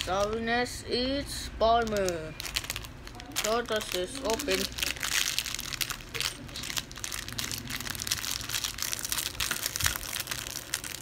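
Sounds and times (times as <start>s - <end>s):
plastic bag crinkling: 0.0s - 0.6s, 1.7s - 11.0s.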